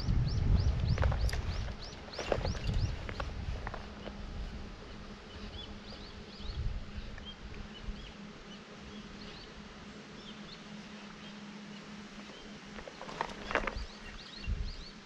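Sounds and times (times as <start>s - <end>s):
distant birds chirping: 0.0s - 15.0s
steady low hum: 0.0s - 15.0s.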